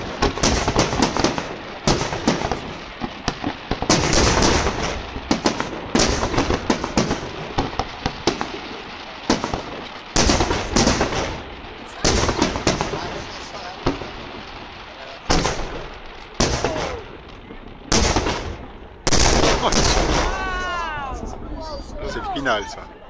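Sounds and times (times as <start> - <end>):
firework shells bursting: 0.0 - 21.5
rumbling and crackle: 0.0 - 22.4.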